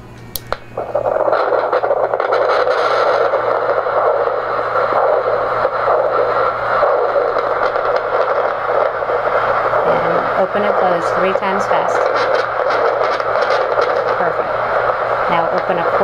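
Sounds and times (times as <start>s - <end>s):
steady hiss: 0.4s - 16.0s.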